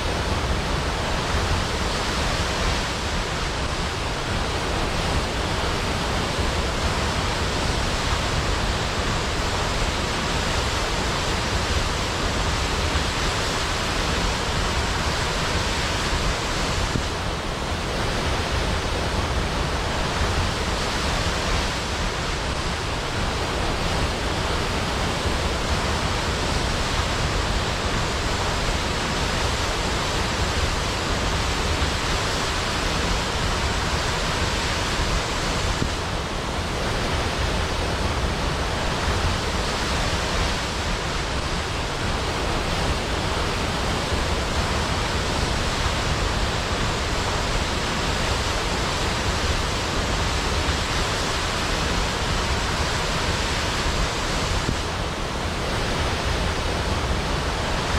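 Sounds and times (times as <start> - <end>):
waterfall crashing into pool: 0.0 - 57.9.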